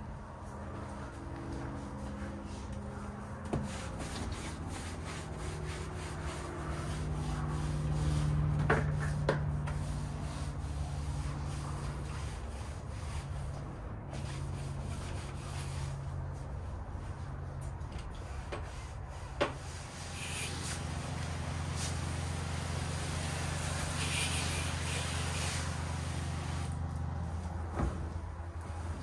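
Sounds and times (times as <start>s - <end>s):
brush scrubbing siding: 0.1s - 29.0s.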